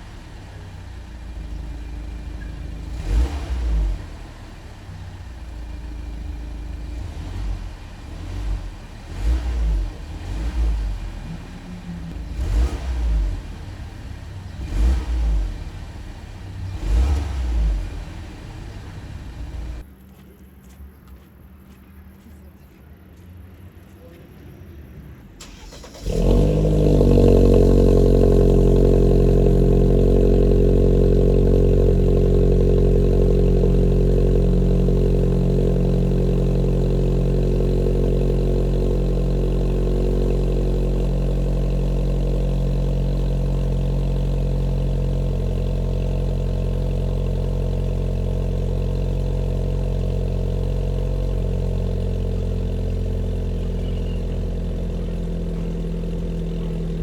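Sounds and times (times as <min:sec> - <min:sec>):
car engine starting and idling: 0:00.0 - 0:19.9, 0:25.4 - 0:57.0.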